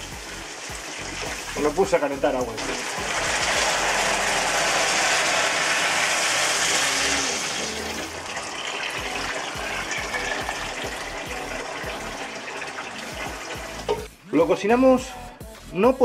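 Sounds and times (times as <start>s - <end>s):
water pouring into a pot: 0.0s - 14.1s.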